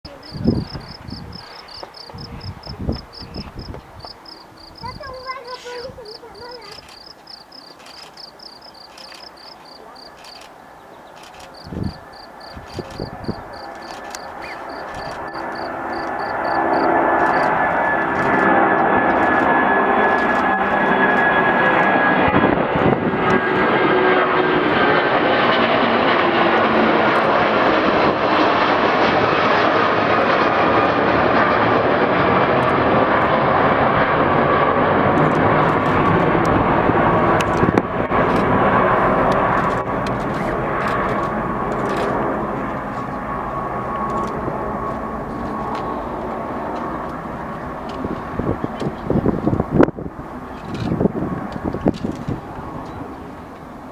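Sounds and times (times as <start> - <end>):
jet engines at takeoff: 0.1 - 53.9.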